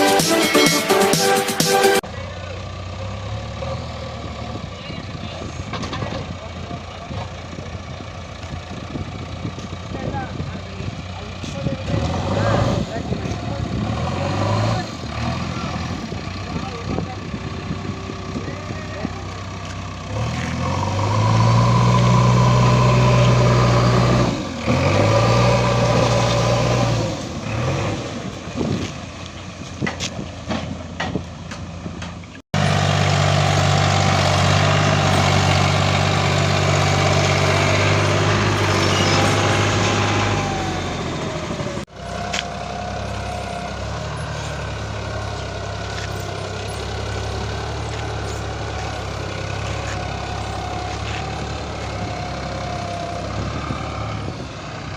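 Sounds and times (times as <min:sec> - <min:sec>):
diesel engines revving under load: 0:00.0 - 0:54.9.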